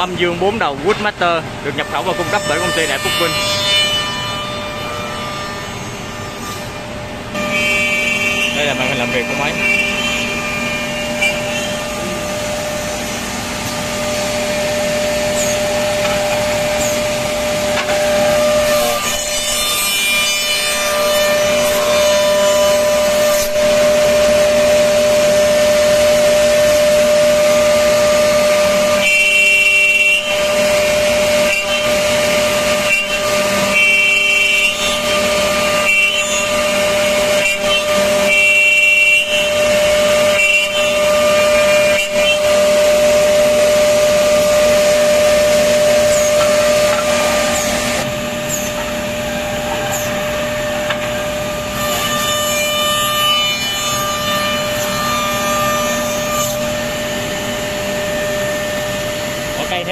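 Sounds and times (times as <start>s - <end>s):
cutters machining wood: 0.0s - 59.9s
spindle motors whining: 0.0s - 59.9s.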